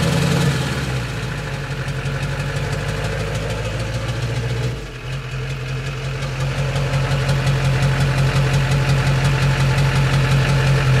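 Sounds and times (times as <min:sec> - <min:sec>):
diesel engine droning: 0:00.0 - 0:11.0
rapid engine knock: 0:00.0 - 0:11.0.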